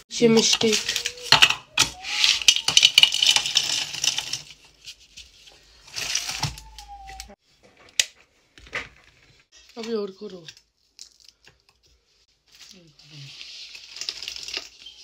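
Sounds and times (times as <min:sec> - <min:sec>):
biscuits and wrappers crackling: 0:00.2 - 0:15.0.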